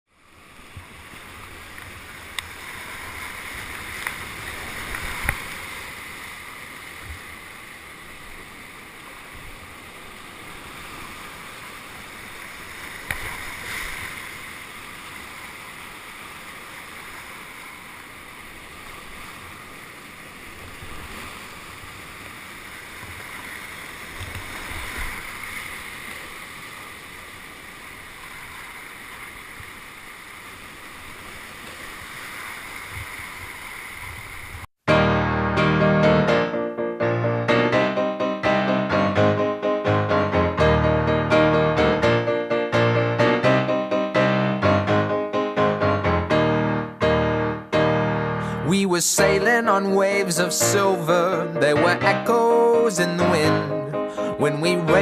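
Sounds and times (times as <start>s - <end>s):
whitewater rushing: 0.4s - 34.5s, 44.3s - 55.0s.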